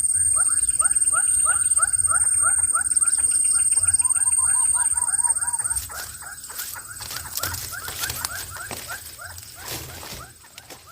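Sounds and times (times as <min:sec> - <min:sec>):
bird chicks chirping: 0:00.0 - 0:10.9.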